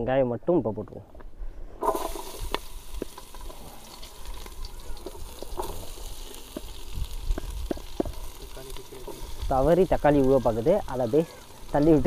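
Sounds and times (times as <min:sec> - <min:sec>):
onions sizzling in hot oil: 0:01.8 - 0:12.0.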